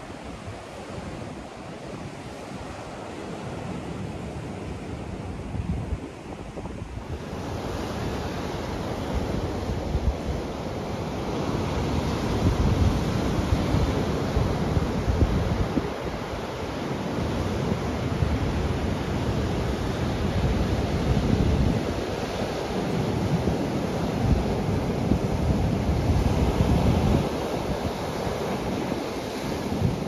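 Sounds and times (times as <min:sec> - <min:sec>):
ocean surf on beach: 0:00.0 - 0:30.0
wind buffeting microphone: 0:00.0 - 0:30.0.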